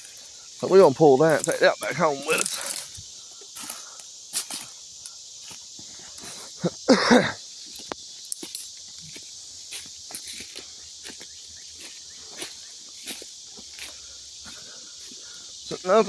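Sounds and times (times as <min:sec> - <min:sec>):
crickets chirping: 0:00.0 - 0:16.0
footsteps crunching in woods: 0:00.0 - 0:16.0.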